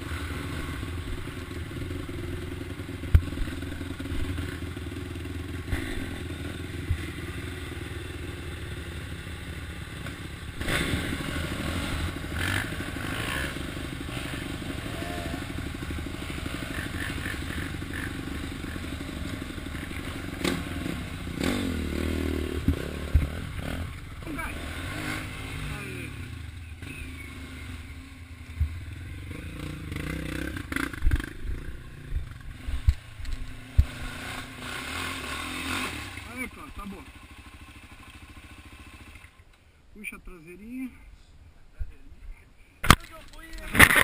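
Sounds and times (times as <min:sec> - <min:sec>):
motorcycle engine running: 0:00.0 - 0:39.5.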